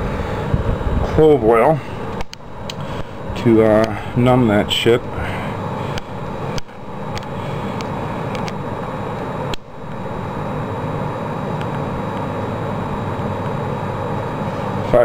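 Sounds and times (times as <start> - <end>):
continuous hum and hiss: 0.0 - 15.0.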